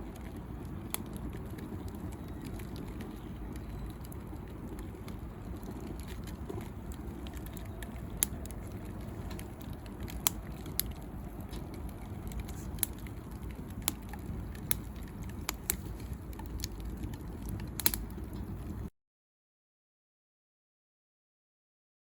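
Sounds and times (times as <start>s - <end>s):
burning wood popping and cracking: 0.0s - 18.9s
fire flames rumbling: 0.0s - 18.9s.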